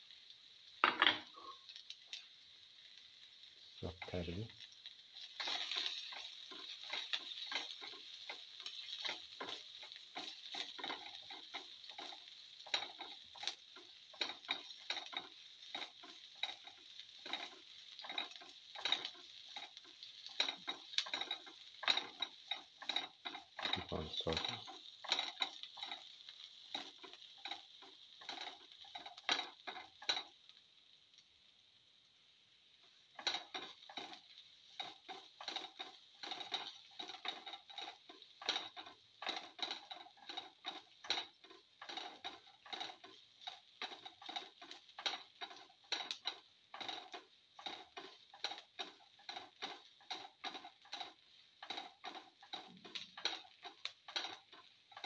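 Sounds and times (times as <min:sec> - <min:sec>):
oil sizzling: 0:00.0 - 0:55.0
spatula scraping pan: 0:04.0 - 0:30.4, 0:32.9 - 0:55.0.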